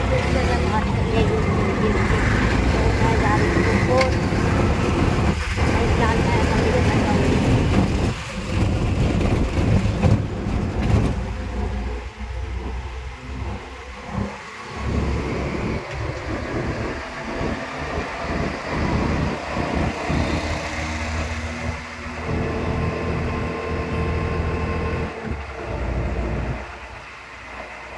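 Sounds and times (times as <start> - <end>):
vehicle engines: 0.0 - 27.9.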